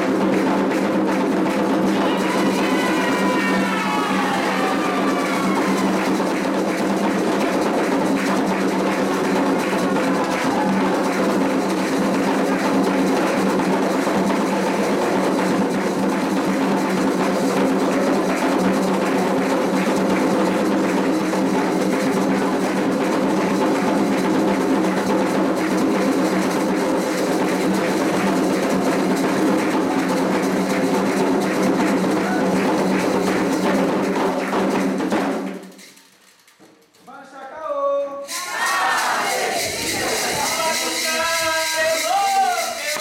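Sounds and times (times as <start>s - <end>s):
hand drums playing: 0.0s - 35.9s, 38.3s - 43.0s.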